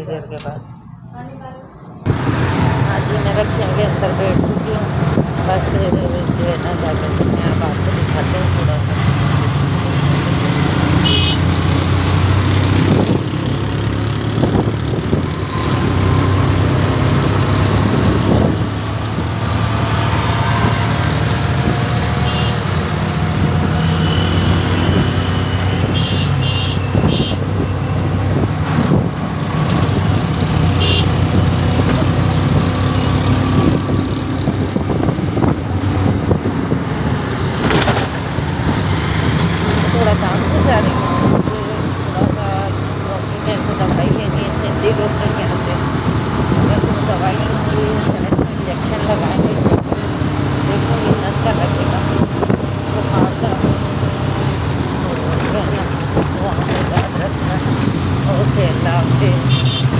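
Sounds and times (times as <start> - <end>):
road and traffic noise: 0.0 - 59.9
auto-rickshaw engine running: 2.1 - 59.9.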